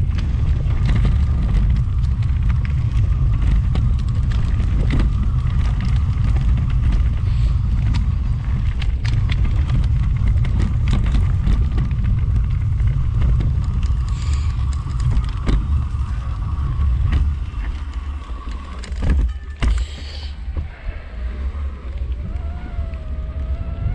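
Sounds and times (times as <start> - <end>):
bike knocks and rattles: 0.0 - 19.9
faint steady whine: 0.0 - 23.9
wind rumbling on microphone: 0.0 - 23.9.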